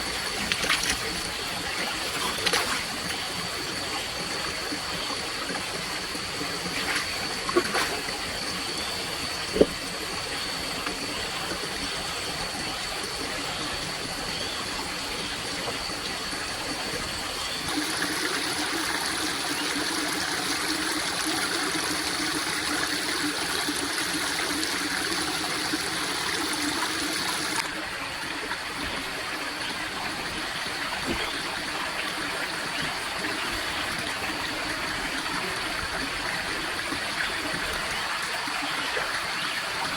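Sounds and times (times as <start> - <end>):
water running: 0.0 - 9.8, 16.8 - 39.9.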